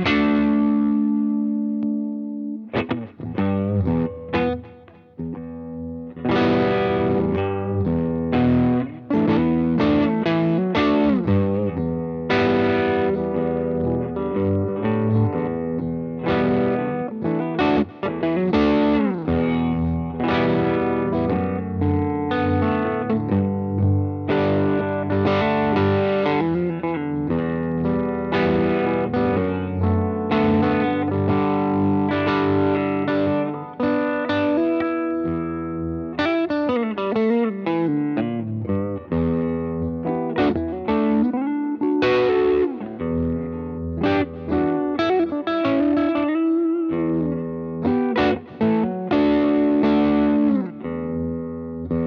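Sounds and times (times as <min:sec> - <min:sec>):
electric guitar with vibrato: 0:00.0 - 0:52.0.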